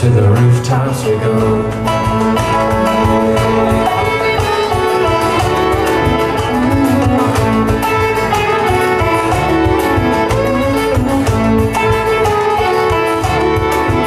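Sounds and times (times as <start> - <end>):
strummed guitar: 0.0 - 14.0
fiddle melody: 1.2 - 14.0
low rhythmic pulse: 1.6 - 14.0.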